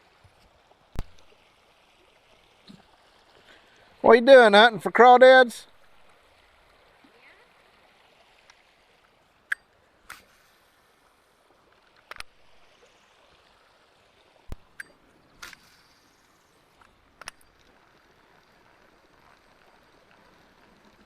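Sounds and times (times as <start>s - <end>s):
running creek water: 0.0s - 21.0s.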